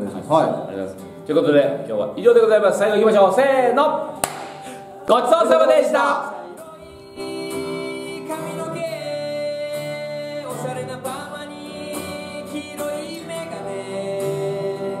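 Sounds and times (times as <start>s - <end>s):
instrumental backing music: 0.0s - 15.0s.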